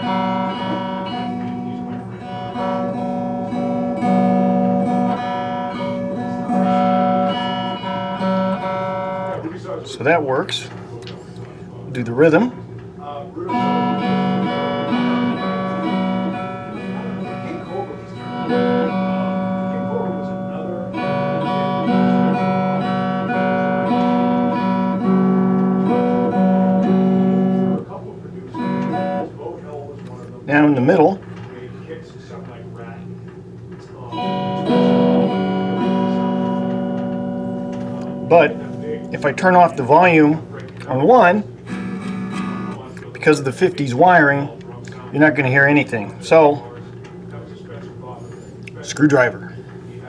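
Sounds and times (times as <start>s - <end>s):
electric guitar strumming chords: 0.0s - 10.6s, 11.9s - 31.2s, 33.6s - 47.4s.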